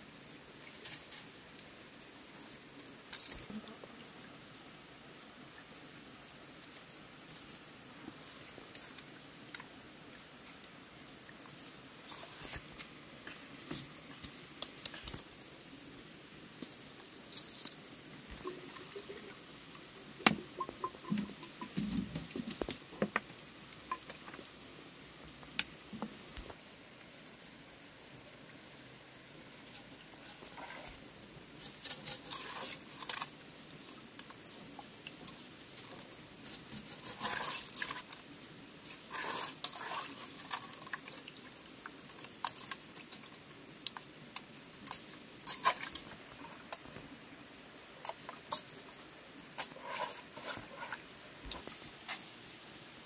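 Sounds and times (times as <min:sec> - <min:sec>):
wet rice pattering into bamboo tube: 0:00.4 - 0:24.6, 0:25.2 - 0:52.7.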